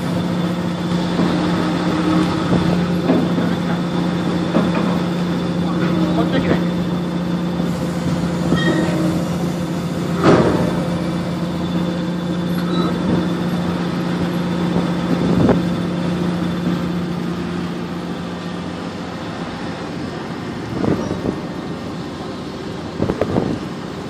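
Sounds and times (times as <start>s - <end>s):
heavy machinery drone: 0.0s - 24.0s.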